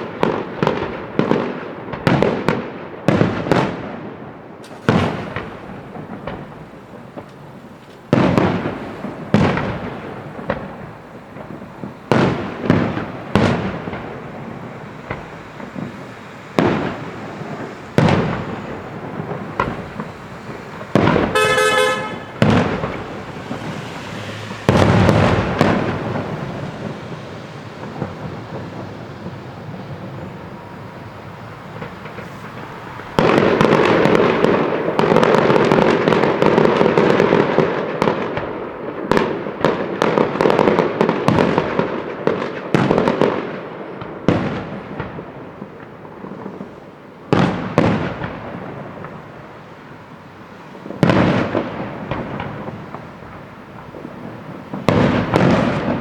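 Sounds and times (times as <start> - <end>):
fireworks bursting with rumbling echo: 0.0 - 56.0.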